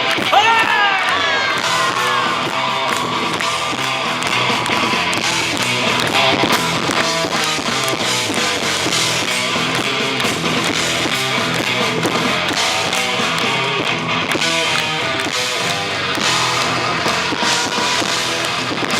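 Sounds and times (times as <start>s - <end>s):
live rock band with electric guitar: 0.0s - 18.9s.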